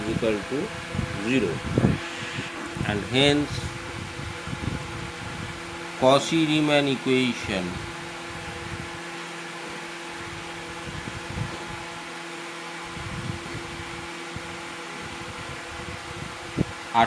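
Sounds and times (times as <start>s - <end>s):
room noise hum and hiss: 0.0s - 17.0s.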